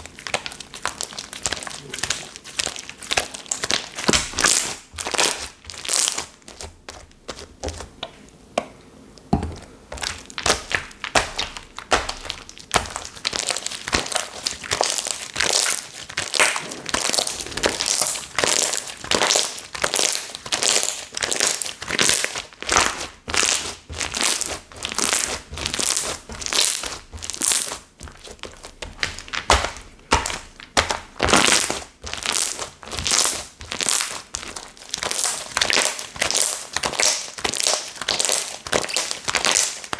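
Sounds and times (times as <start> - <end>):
slime squishing and popping: 0.0 - 8.0, 9.4 - 39.9.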